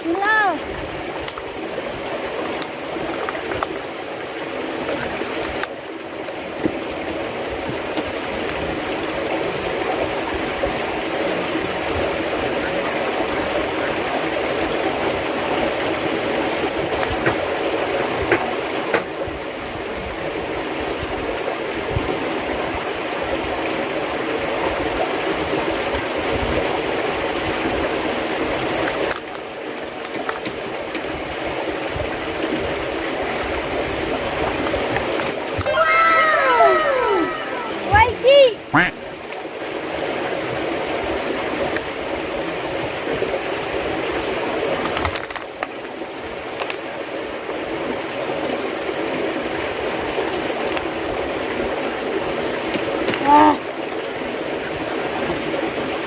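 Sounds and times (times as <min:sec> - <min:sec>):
running water flowing: 0:00.0 - 0:56.0.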